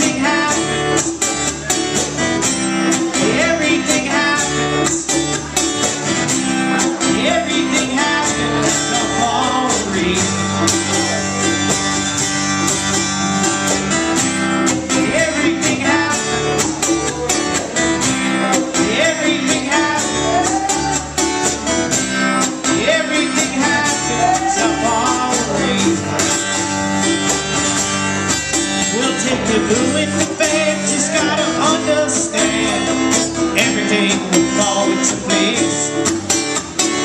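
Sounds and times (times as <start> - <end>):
plucked double bass: 0.0 - 37.0
strummed acoustic guitar: 0.0 - 37.0.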